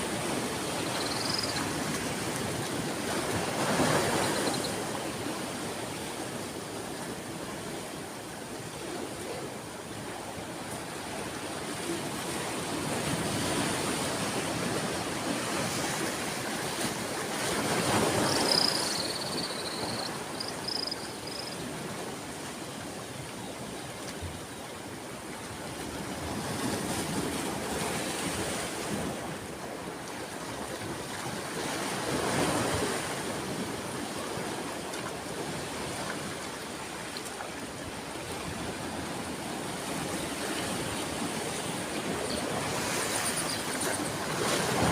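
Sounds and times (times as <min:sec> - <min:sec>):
ocean waves washing ashore: 0:00.0 - 0:44.9.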